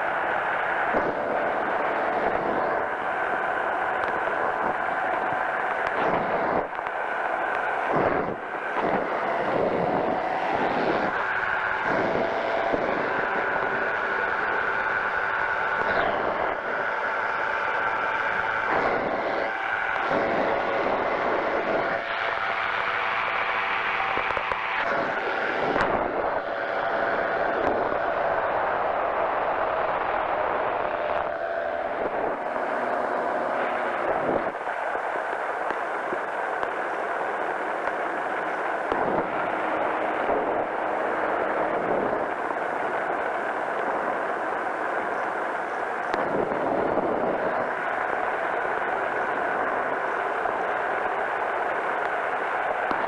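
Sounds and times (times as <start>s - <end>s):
engine and propeller running: 0.0s - 53.0s.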